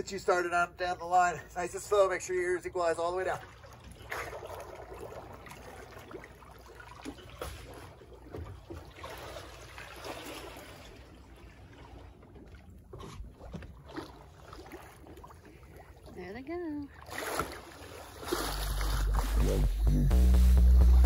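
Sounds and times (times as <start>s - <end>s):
water lapping against hull: 0.0s - 20.0s
soft splashes: 1.9s - 19.4s.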